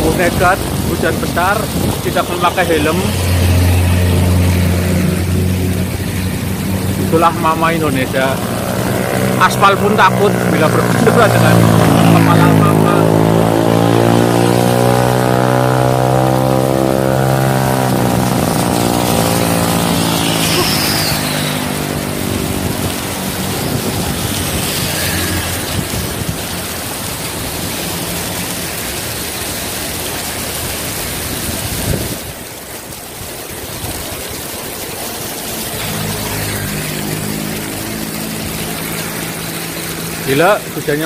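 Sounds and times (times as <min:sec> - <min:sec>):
vehicle engine passing: 0:00.0 - 0:30.1, 0:34.5 - 0:41.0
heavy rain pouring: 0:00.0 - 0:41.0.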